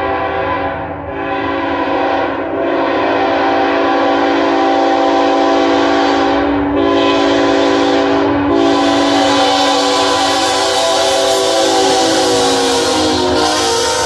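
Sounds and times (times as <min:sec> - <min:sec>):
locomotive air horn chord: 0:00.0 - 0:14.0
low rumble of passing train: 0:00.0 - 0:14.0.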